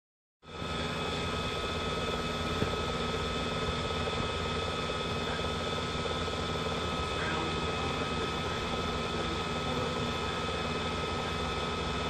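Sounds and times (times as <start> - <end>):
bubble machine motor whirring: 0.5 - 12.0.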